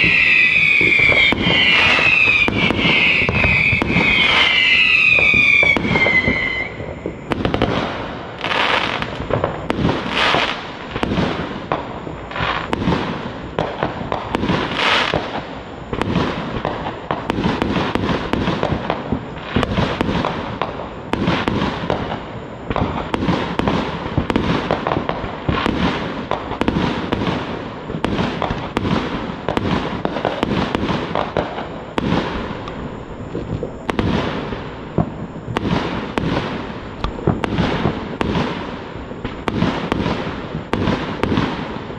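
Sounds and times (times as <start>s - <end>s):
fireworks bangs and pops: 0.0s - 41.9s.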